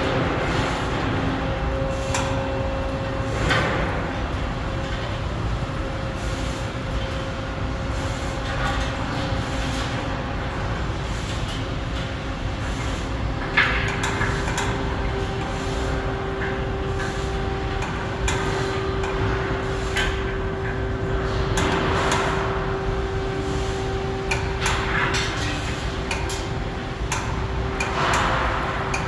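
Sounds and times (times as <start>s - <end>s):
mechanical rumble with hum: 0.0s - 29.0s.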